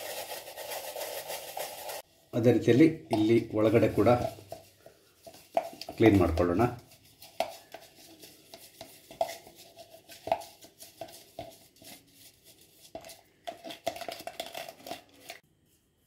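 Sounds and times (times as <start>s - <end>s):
toothbrush scrubbing plastic container: 0.0s - 2.0s, 3.2s - 15.4s.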